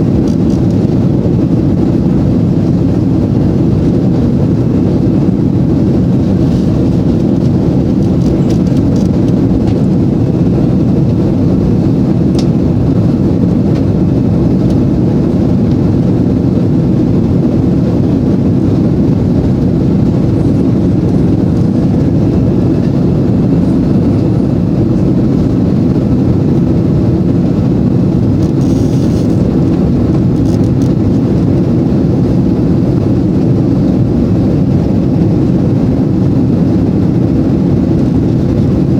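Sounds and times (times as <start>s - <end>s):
jet engines deep rumble: 0.0s - 38.9s.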